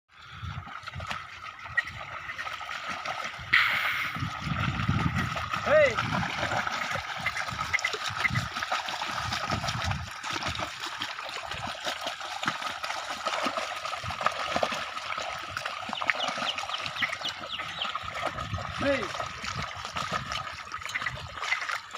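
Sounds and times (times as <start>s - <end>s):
water sloshing and trickling: 0.1s - 21.9s.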